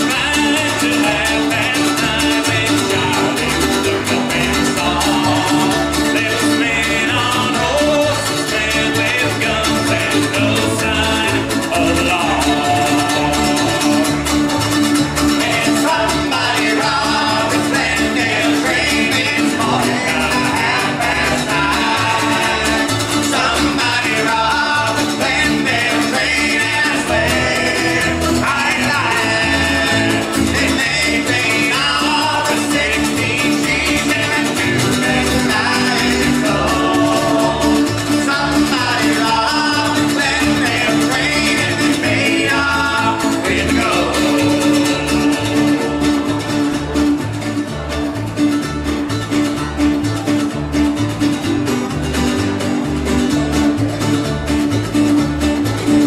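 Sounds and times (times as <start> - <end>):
acoustic guitars: 0.0 - 56.0
banjo: 0.0 - 56.0
mandolins: 0.0 - 56.0
upright bass steady beat: 0.0 - 56.0.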